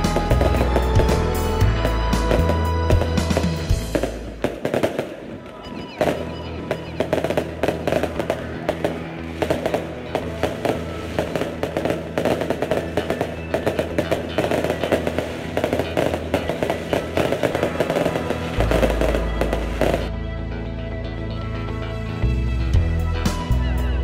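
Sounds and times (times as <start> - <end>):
firecrackers crackling and popping: 0.0 - 20.1
background music: 0.0 - 24.0.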